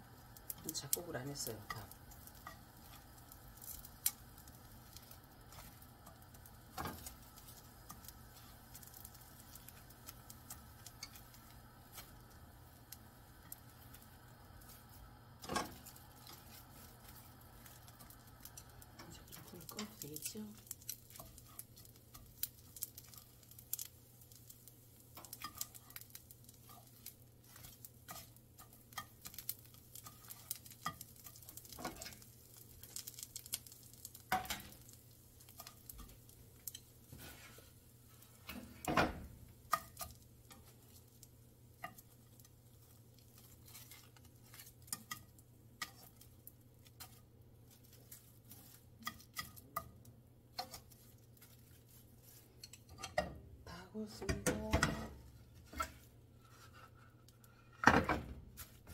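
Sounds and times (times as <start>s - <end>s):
seaweed crackling: 0.0s - 37.8s, 39.6s - 49.8s
low steady hum: 0.0s - 58.9s
chopsticks tapping in frying pan: 0.4s - 14.8s, 15.4s - 37.2s, 38.5s - 51.6s, 52.3s - 53.4s, 54.2s - 56.0s.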